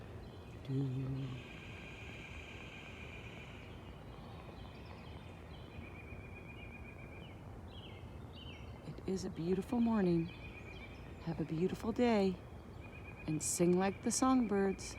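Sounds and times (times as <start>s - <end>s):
songbirds singing: 0.0s - 14.9s.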